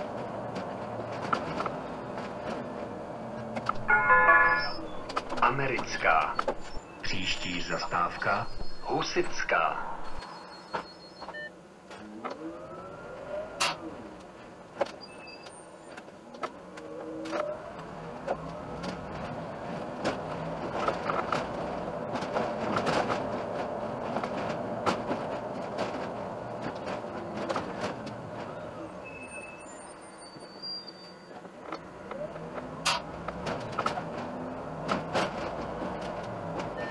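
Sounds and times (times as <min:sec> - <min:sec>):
bus engine: 0:00.0 - 0:36.9
road noise: 0:00.0 - 0:36.9.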